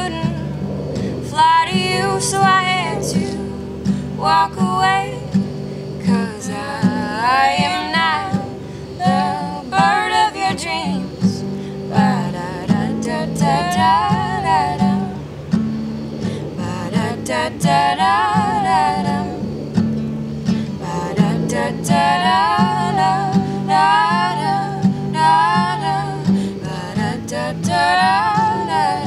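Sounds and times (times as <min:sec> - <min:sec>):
women singing: 0:00.0 - 0:15.2, 0:16.2 - 0:19.6, 0:20.5 - 0:29.0
acoustic guitar strumming: 0:00.0 - 0:29.0.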